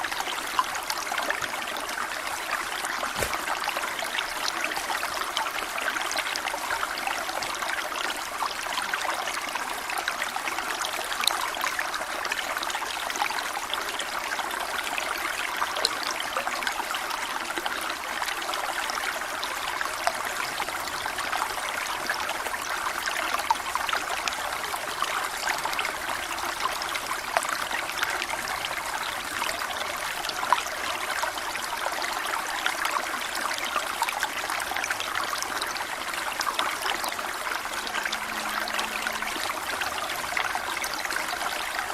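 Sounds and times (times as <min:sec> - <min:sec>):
stream babbling over stones: 0:00.0 - 0:41.9.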